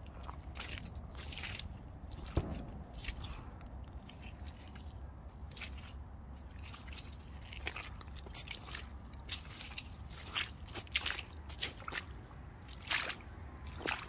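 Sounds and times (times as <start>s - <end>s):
boots squelching in mud: 0.0s - 14.0s.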